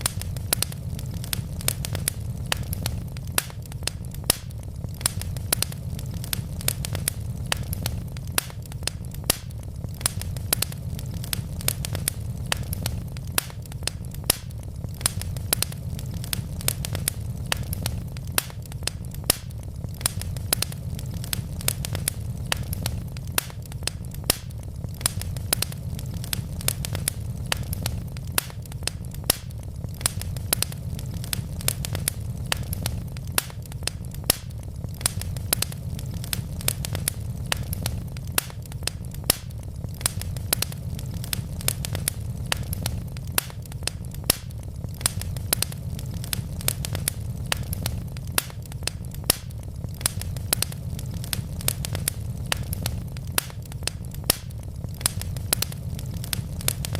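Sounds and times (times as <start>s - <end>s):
fire rumble: 0.0s - 56.9s
logs crackling and popping: 0.0s - 56.9s.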